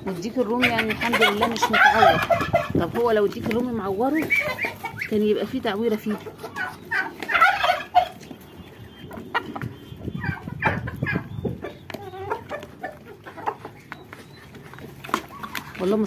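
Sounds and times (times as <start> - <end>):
beaks pecking plastic basin: 0.0 - 9.8, 11.3 - 16.0
hens clucking: 0.0 - 16.0.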